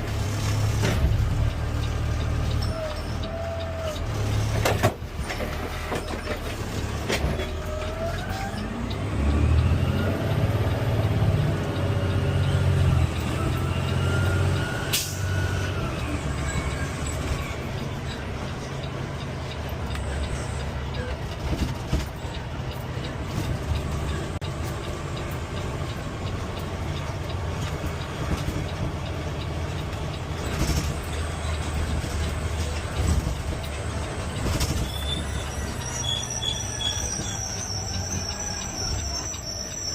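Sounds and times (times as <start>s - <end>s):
garbage truck engine rumbling: 0.0s - 39.9s.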